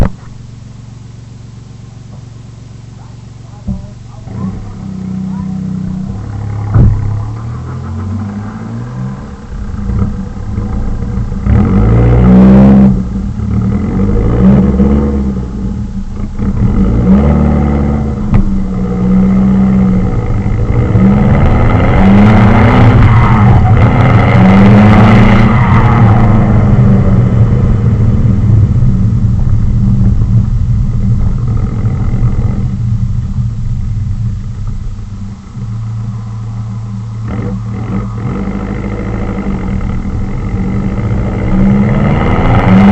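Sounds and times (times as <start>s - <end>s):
raspy car exhaust accelerating: 0.0s - 42.9s.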